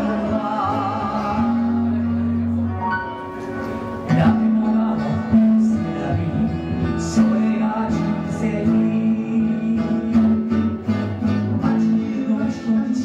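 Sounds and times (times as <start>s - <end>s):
person singing: 0.0s - 2.8s, 4.0s - 13.0s
acoustic guitars strumming: 0.0s - 13.0s
bass and keyboard: 0.0s - 13.0s.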